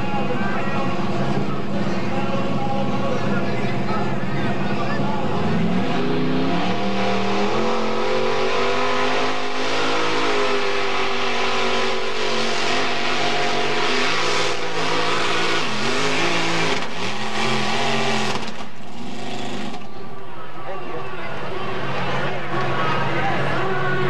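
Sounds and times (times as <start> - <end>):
tractor engine at full revs: 0.0 - 20.1.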